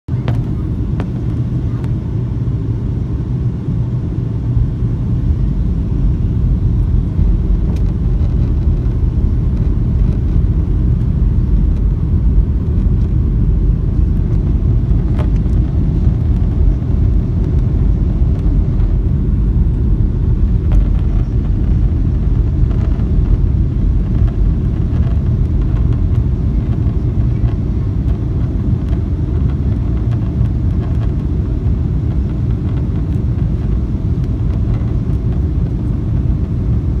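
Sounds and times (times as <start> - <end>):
airliner cabin rumble in flight: 0.1 - 37.0.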